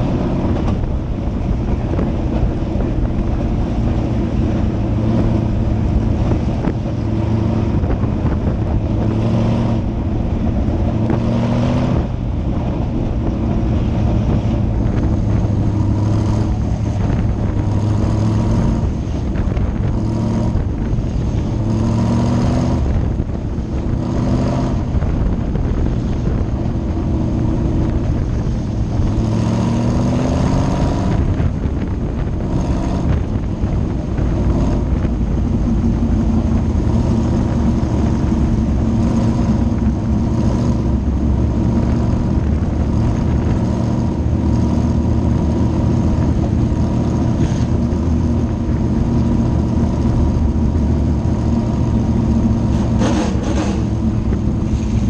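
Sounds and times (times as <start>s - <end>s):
race car engine running loud: 0.0s - 55.0s.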